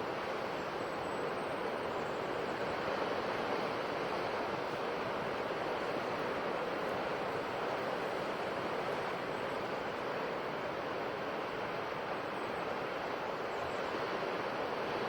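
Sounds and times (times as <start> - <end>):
sea waves on a shore: 0.0 - 15.0.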